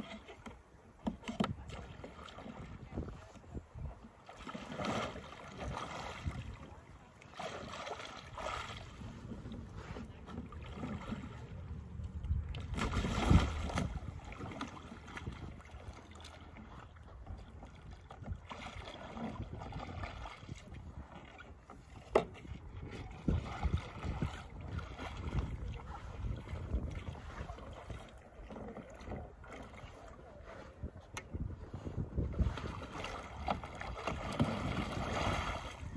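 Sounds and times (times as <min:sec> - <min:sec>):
water sloshing and splashing: 0:00.0 - 0:35.9
wind on microphone: 0:01.3 - 0:06.9, 0:07.6 - 0:16.0, 0:17.2 - 0:35.9.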